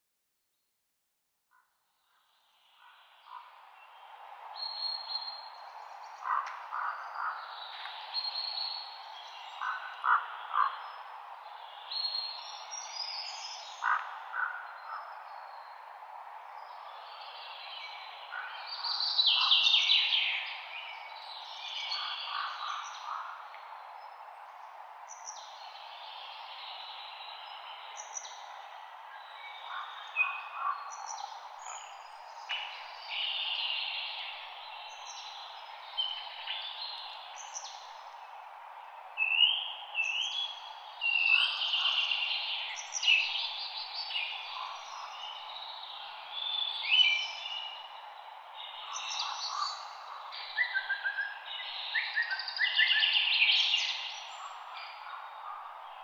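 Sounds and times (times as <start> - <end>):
songbirds singing and chirping: 2.1 - 56.0
steady background hiss: 2.4 - 56.0.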